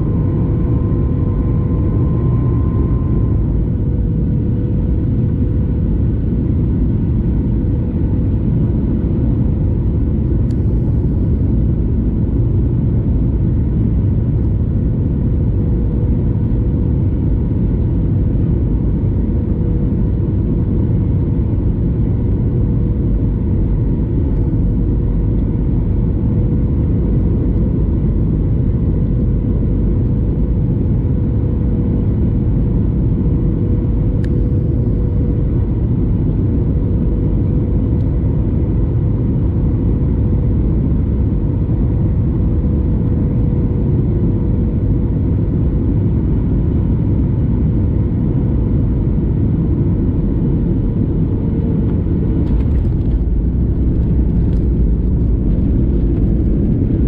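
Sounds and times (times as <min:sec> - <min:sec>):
jet engine rumble: 0:00.0 - 0:57.0
steady hum: 0:00.0 - 0:57.0.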